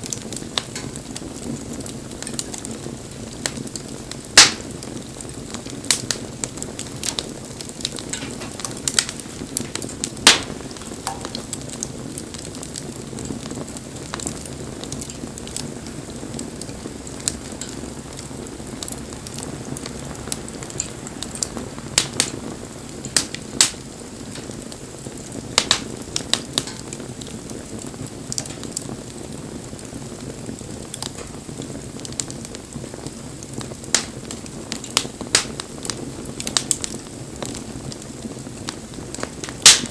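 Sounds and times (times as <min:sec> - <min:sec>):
fire crackles and pops: 0:00.0 - 0:39.9
low rush of flame: 0:00.0 - 0:39.9.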